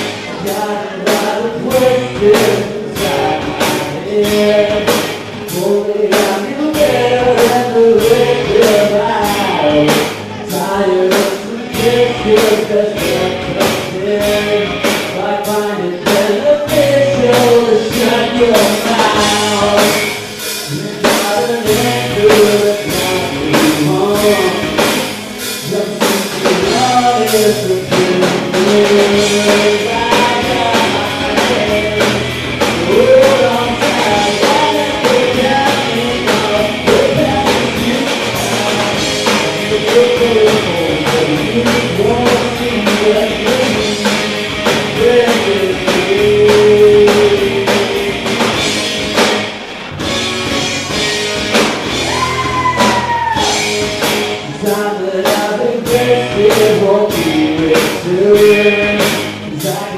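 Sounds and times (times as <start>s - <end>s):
person singing: 0.0s - 48.8s, 51.9s - 59.9s
drum kit beat: 0.0s - 59.9s
electric guitars: 0.0s - 59.9s
live rock band playing: 0.0s - 59.9s.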